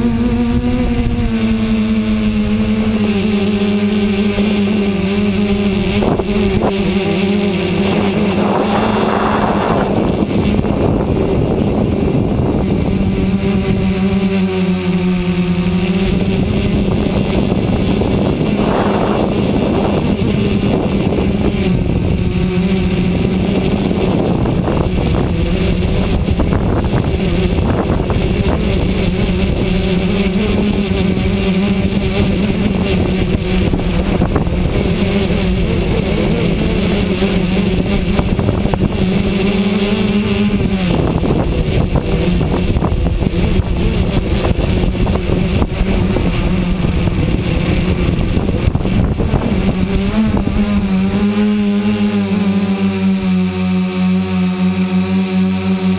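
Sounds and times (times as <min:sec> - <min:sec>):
drone motors humming: 0:00.0 - 0:55.9
wind on microphone: 0:00.0 - 0:55.9.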